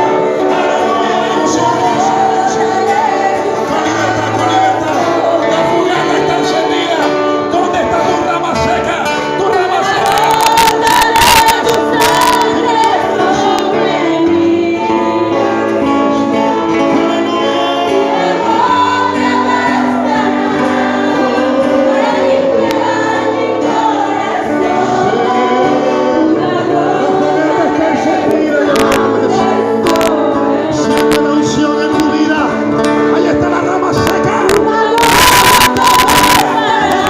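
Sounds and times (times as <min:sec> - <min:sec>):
voices singing worship song: 0:00.0 - 0:37.0.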